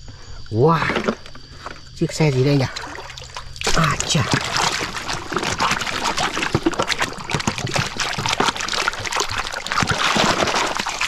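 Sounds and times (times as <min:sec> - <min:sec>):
hands splashing in muddy water: 0:02.1 - 0:11.0.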